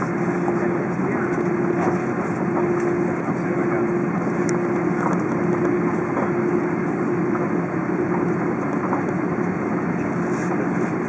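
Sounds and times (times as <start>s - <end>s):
airplane engine taxiing: 0.0s - 11.0s
constant low hum: 0.0s - 11.0s.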